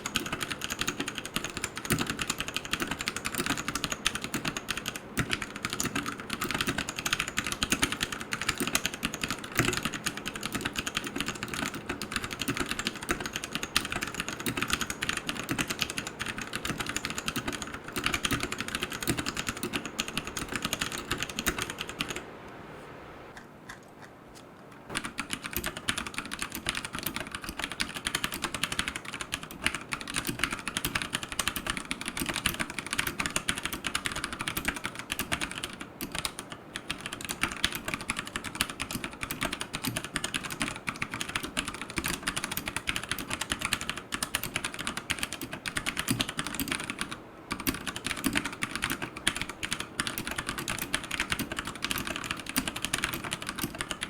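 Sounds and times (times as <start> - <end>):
mechanical keyboard typing: 0.0 - 22.2, 24.9 - 54.0.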